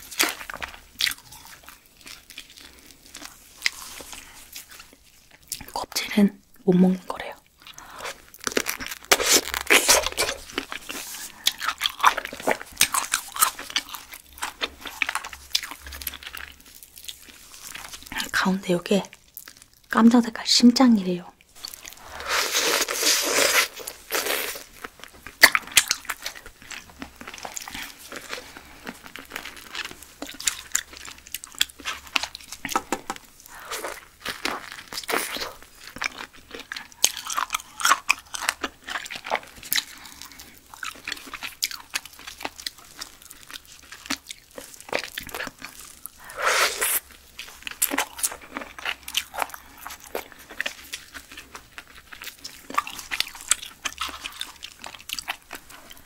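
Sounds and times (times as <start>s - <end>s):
crunchy chewing: 0.0s - 5.7s, 7.5s - 18.2s, 21.5s - 56.0s.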